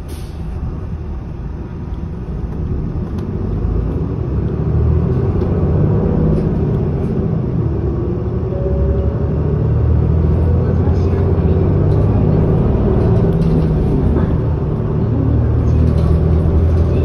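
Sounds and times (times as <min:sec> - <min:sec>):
bus diesel engine accelerating: 0:00.0 - 0:17.0.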